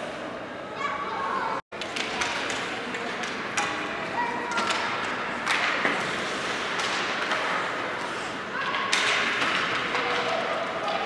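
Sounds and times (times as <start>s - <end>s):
indistinct voices in large hall: 0.0s - 11.0s.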